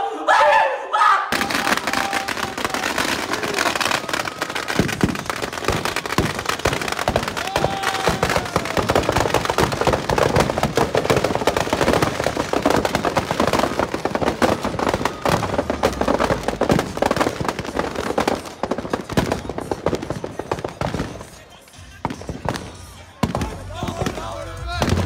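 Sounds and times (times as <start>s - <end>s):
firecrackers crackling: 1.3s - 25.0s.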